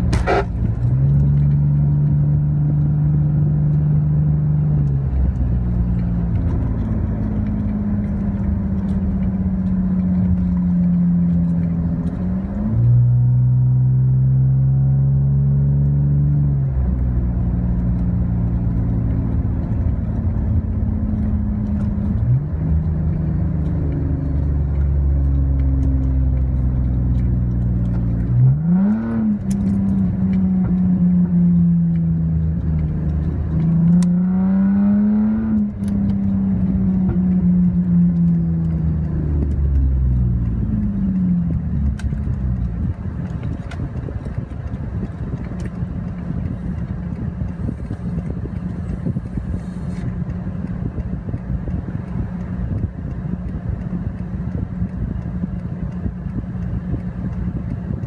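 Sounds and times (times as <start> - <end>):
car exhaust drone: 0.0 - 58.0.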